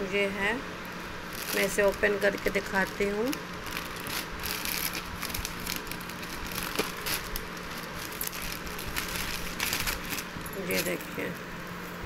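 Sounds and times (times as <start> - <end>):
plastic packaging crinkling: 1.2 - 11.4.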